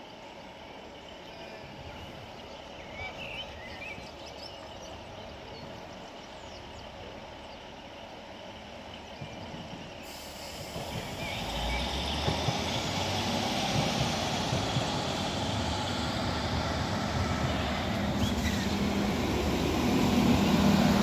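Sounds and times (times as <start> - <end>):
distant train rumble: 0.0 - 21.0
birds chirping: 0.1 - 21.0.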